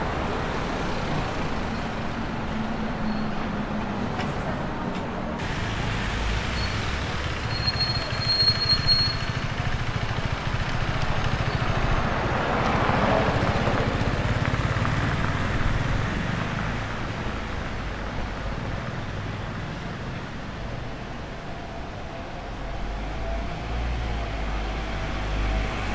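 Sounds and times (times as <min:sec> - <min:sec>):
car tyre and road noise: 0:00.0 - 0:25.9
city street traffic rumble: 0:00.0 - 0:25.9.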